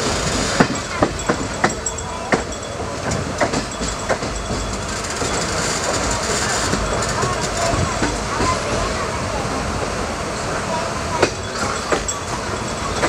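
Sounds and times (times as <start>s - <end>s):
wheels clacking over rail joints: 0.0s - 9.2s, 11.1s - 13.0s
train rumbling on rails: 0.0s - 13.0s.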